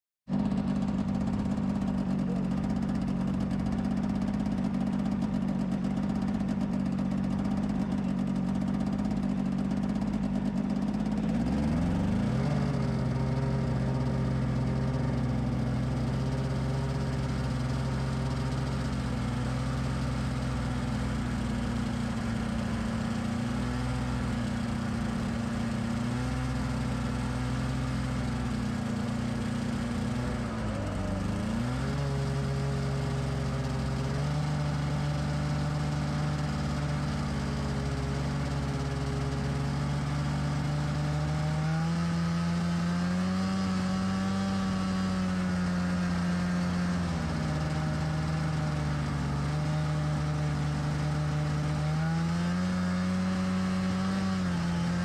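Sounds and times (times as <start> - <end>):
snowmobile engine idling: 0.3 - 55.0.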